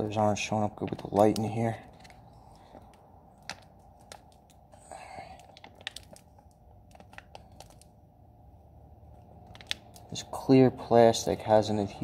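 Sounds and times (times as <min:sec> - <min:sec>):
backing paper crinkling and peeling: 0:00.0 - 0:08.0, 0:09.1 - 0:12.0.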